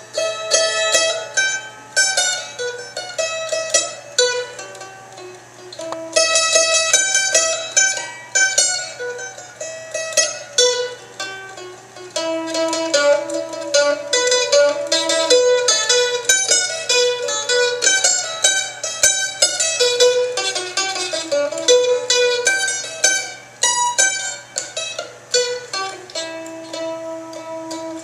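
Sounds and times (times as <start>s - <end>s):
solo mandolin melody: 0.0s - 28.0s.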